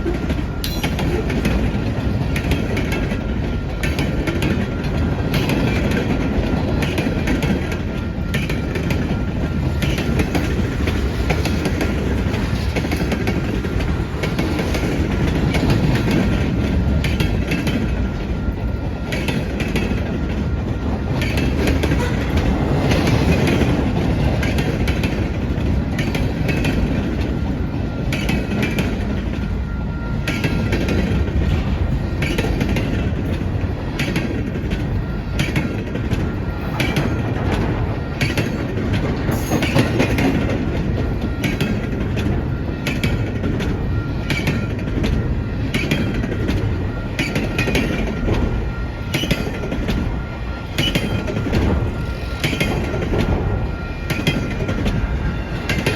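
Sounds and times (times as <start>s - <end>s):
freight train rolling past: 0.0s - 55.9s
train wheels clicking over rail joints: 0.0s - 55.9s.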